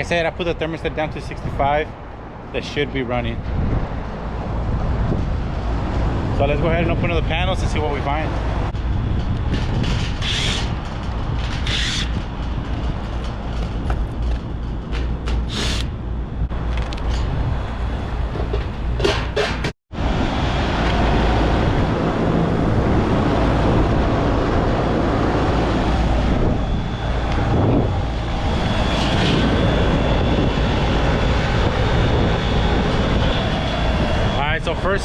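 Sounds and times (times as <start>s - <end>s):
air conditioning unit running: 0.0s - 35.0s.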